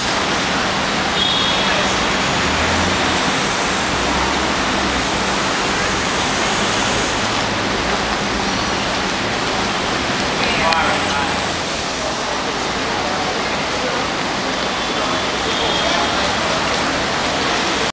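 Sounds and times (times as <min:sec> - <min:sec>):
city street traffic roar: 0:00.0 - 0:17.9.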